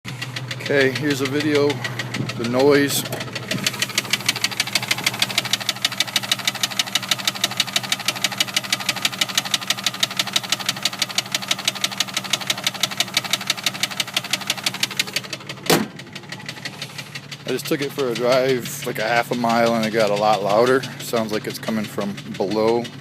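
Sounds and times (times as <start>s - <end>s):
car engine running with knock: 0.1s - 23.0s.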